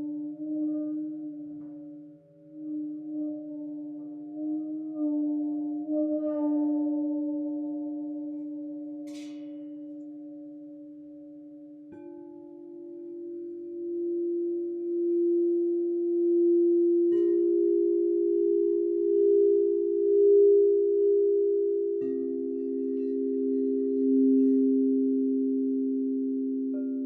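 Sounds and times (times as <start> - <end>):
crystal singing bowls ringing: 0.0 - 27.0.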